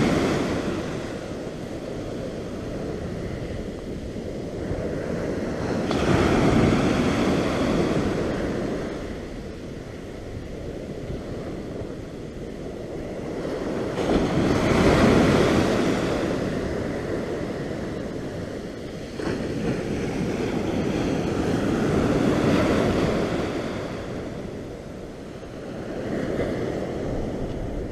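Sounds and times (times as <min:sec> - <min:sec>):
ocean waves washing on beach: 0:00.0 - 0:27.9
wind buffeting microphone: 0:00.0 - 0:27.9.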